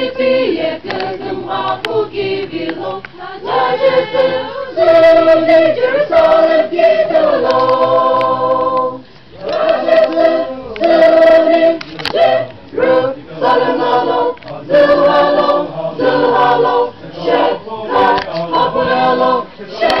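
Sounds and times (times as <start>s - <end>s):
choir singing a hymn: 0.0s - 20.0s.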